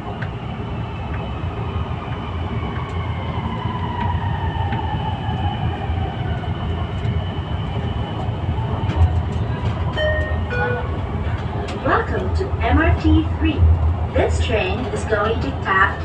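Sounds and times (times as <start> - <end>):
wheel and track rumble: 0.0 - 16.0.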